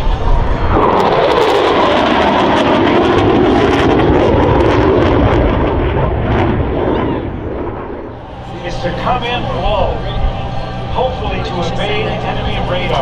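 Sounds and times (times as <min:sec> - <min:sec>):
crackling engine noise: 0:00.0 - 0:13.0
military aircraft flying past: 0:00.0 - 0:13.0.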